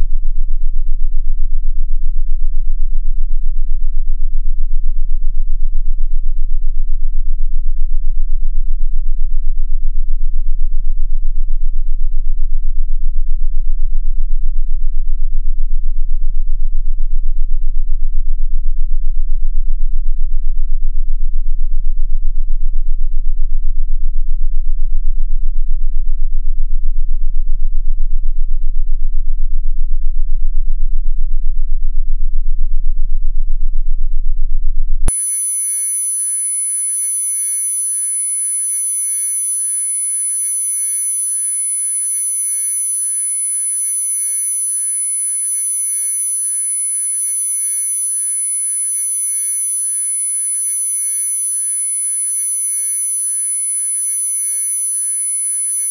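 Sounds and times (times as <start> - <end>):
low pulsing synthesized tone: 0.0 - 47.0.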